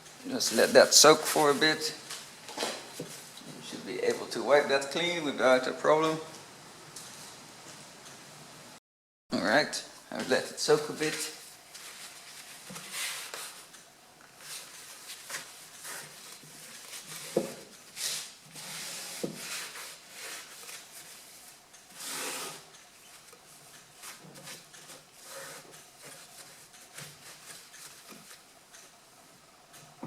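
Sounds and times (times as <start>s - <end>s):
rubbing and scraping handling noise: 0.0s - 6.1s, 10.1s - 30.0s.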